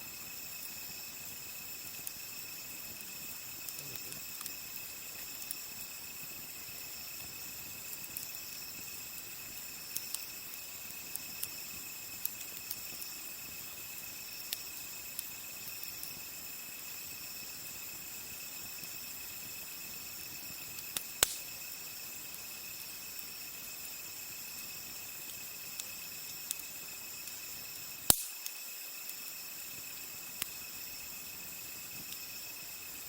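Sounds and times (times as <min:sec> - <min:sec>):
campfire crackling and popping: 0:00.0 - 0:33.0
crickets trilling: 0:00.0 - 0:33.0.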